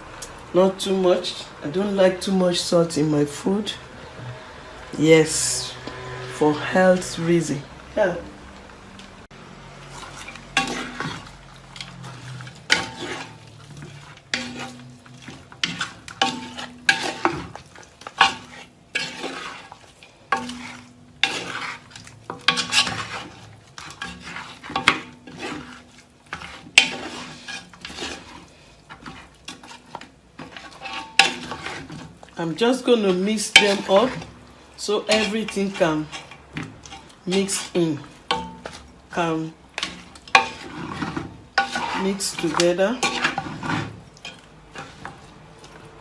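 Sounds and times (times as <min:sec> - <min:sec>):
spoon scraping a metal pot: 0:05.4 - 0:07.5, 0:09.8 - 0:45.6.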